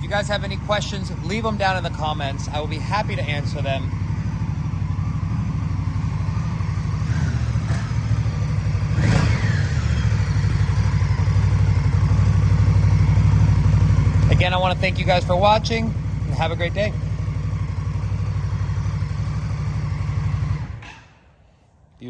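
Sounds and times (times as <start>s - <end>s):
motorcycle engine idling: 0.0s - 21.2s.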